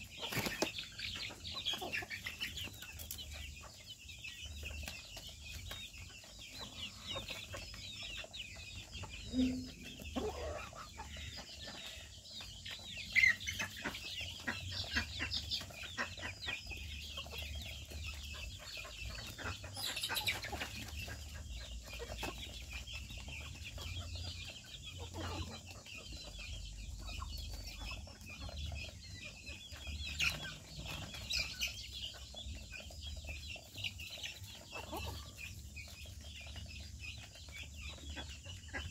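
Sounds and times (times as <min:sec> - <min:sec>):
chickens clucking: 0:00.0 - 0:38.9
constant high chirping: 0:00.0 - 0:38.9.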